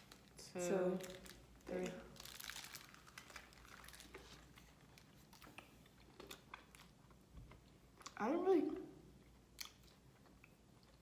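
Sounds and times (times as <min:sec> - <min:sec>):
faint crunching and chewing: 0:01.0 - 0:11.0.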